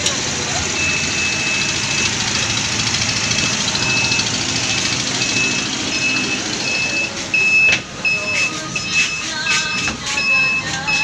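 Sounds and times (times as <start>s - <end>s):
bus engine running: 0.0s - 11.0s
high electronic warning beeps: 0.7s - 11.0s.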